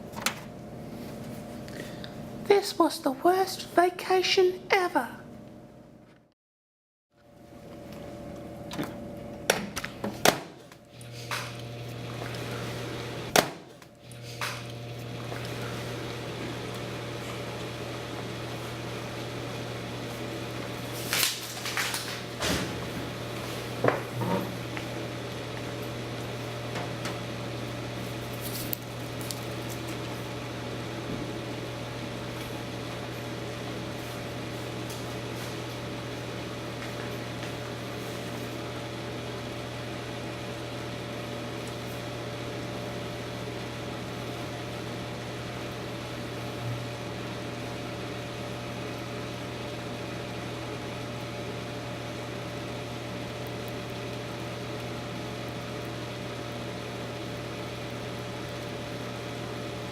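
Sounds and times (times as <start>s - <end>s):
microwave oven humming: 0.0s - 6.2s, 7.2s - 59.9s.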